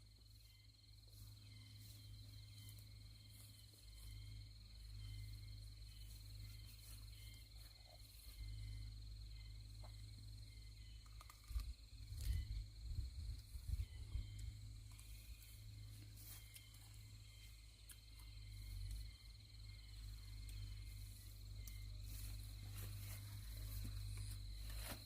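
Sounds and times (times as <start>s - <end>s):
insect trill: 0.0s - 25.0s.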